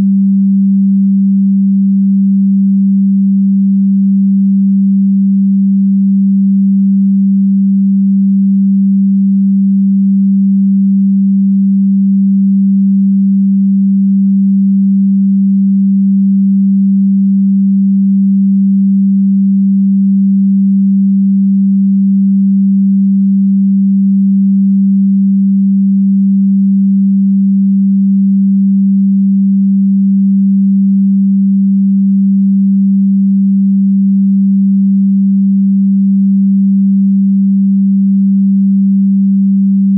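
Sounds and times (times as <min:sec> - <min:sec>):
low steady electronic tone: 0:00.0 - 0:39.9.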